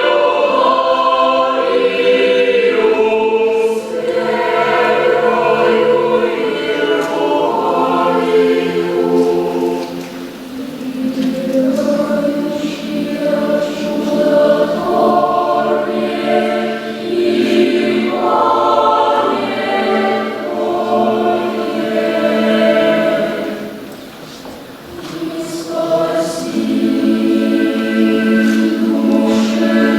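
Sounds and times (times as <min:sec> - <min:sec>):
mixed choir singing a cappella: 0:00.0 - 0:24.1, 0:24.7 - 0:29.9.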